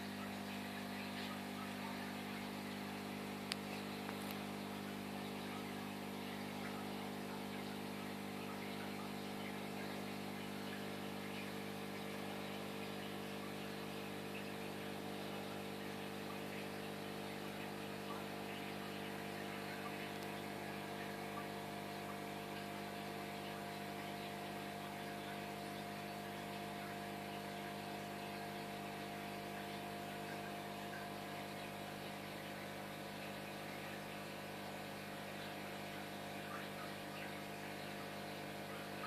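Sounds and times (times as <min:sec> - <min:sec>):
aquarium pump humming: 0:00.0 - 0:39.0.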